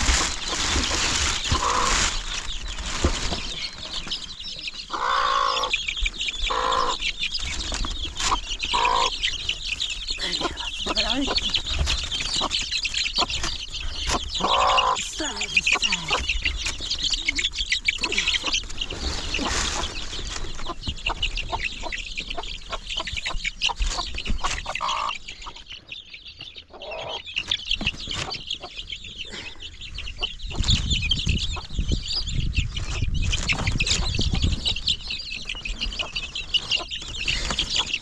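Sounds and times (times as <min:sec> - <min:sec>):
chickens clucking and chirping: 0:00.0 - 0:38.0.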